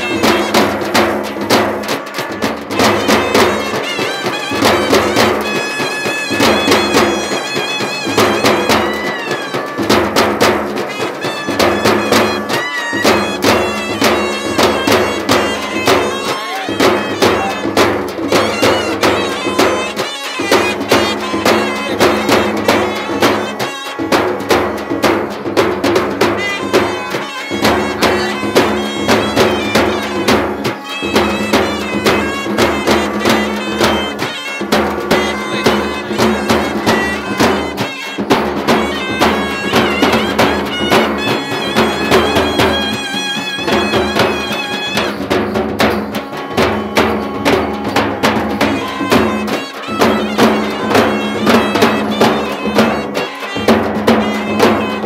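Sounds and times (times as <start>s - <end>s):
fast drumming: 0.0s - 55.0s
reedy wind instrument melody: 0.0s - 55.0s.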